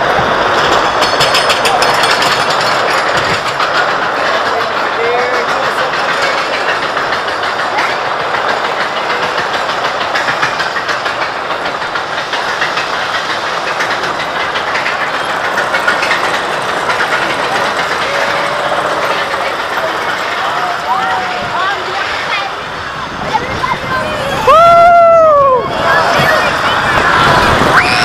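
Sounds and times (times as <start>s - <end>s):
roller coaster chain clatter: 0.0s - 28.0s.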